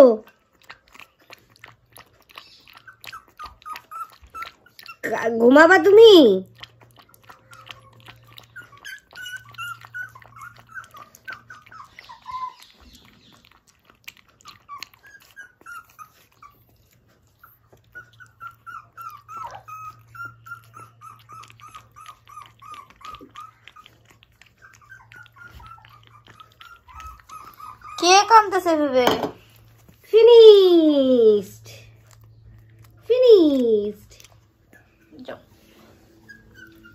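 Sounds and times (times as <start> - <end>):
puppy lapping from steel bowl: 0.0 - 30.2
puppy whimpering: 0.0 - 36.9.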